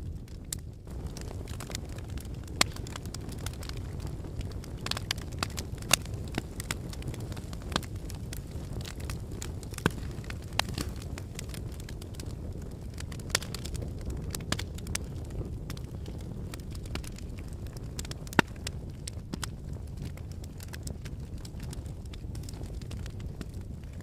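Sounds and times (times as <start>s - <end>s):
fire flames rumbling: 0.0s - 24.0s
logs crackling and popping: 0.0s - 24.0s.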